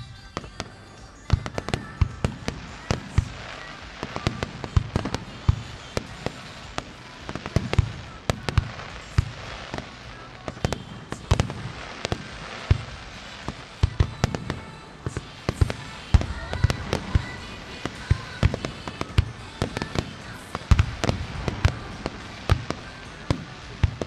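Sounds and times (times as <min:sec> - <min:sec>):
firework shells bursting: 0:00.0 - 0:24.0
fireworks crackling hiss: 0:00.0 - 0:24.0.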